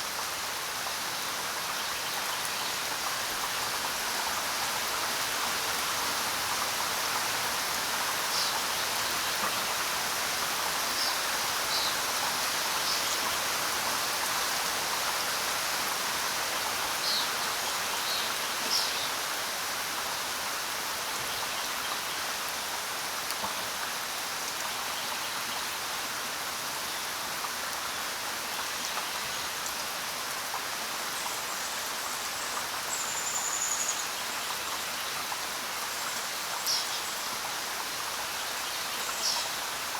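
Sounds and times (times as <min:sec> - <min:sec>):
steady rain falling on ground: 0:00.0 - 0:39.9.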